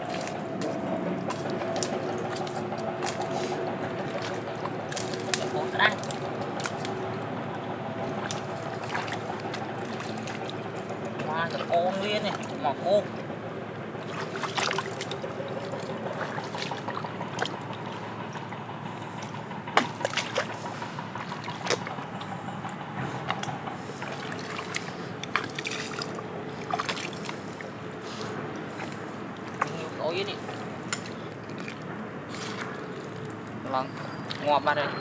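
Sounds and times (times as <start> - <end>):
feet wading through water and mud: 0.0 - 35.0.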